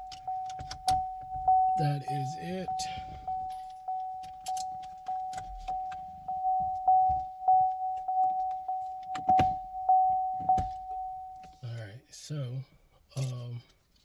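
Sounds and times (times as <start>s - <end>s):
car warning chime dinging: 0.0s - 12.0s.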